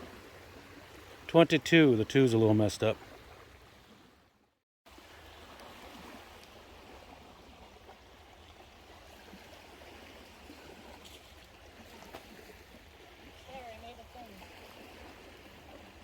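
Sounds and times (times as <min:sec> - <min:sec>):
small waves washing onto beach: 0:00.0 - 0:16.0.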